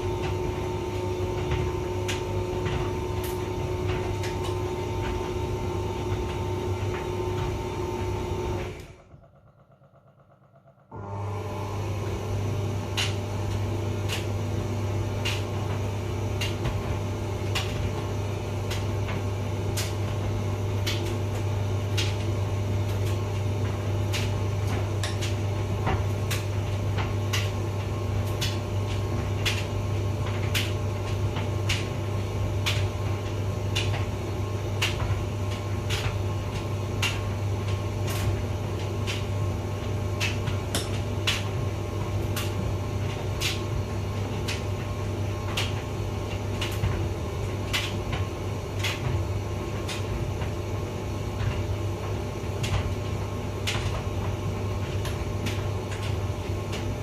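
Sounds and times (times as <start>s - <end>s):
tumble dryer motor hum: 0.0s - 57.0s.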